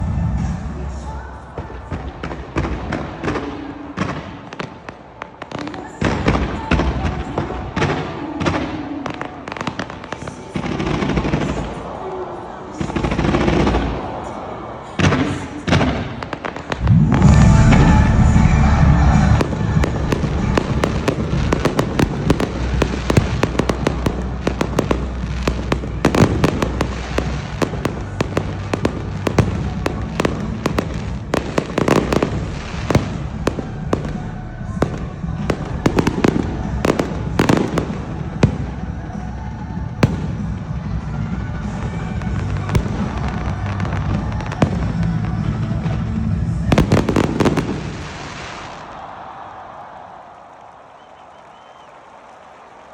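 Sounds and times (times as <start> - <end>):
crowd voices: 0.0 - 52.9
fireworks bangs and crackles: 0.0 - 52.9.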